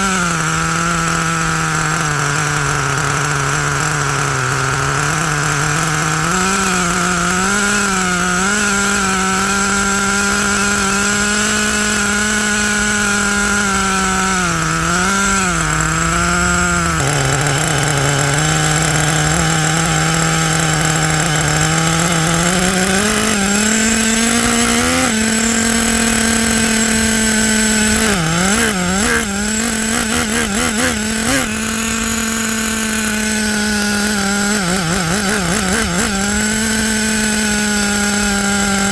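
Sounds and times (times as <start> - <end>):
nitro engine running: 0.0 - 38.9.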